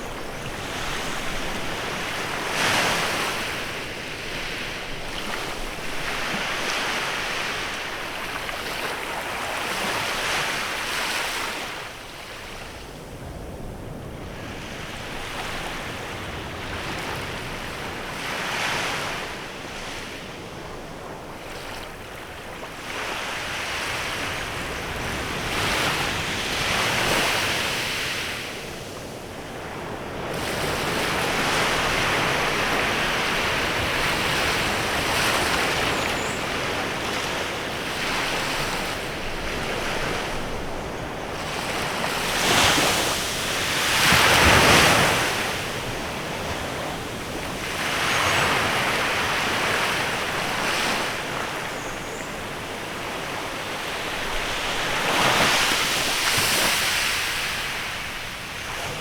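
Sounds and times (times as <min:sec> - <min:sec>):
waves breaking on beach: 0:00.0 - 0:12.6, 0:21.3 - 0:59.0.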